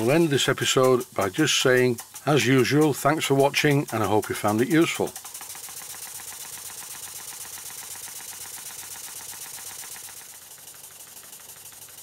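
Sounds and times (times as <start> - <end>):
model engine clattering: 0.0 - 12.0.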